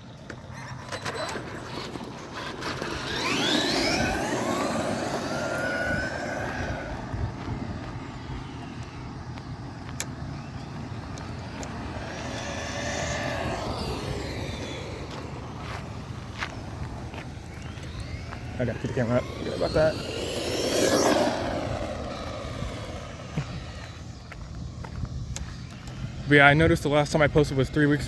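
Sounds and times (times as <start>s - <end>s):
motor vehicles passing: 0.0s - 28.0s
road noise rumble: 0.0s - 28.0s.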